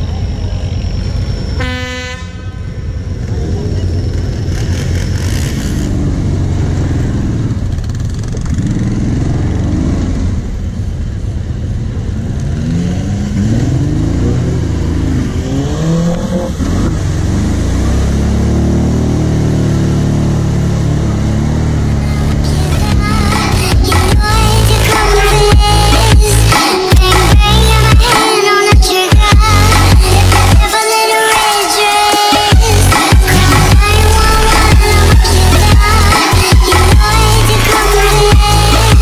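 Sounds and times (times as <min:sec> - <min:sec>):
atv engine revving: 0:03.1 - 0:28.2, 0:32.4 - 0:39.0.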